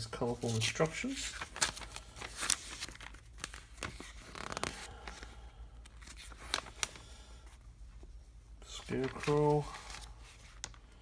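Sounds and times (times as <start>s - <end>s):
paper pages rustling: 0.0s - 7.6s, 8.6s - 11.0s.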